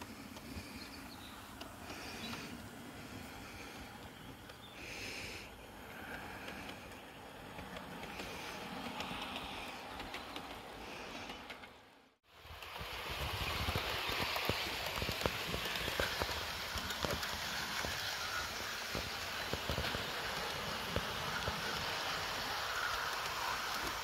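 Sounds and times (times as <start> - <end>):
model train rattling on track: 0.0 - 24.0.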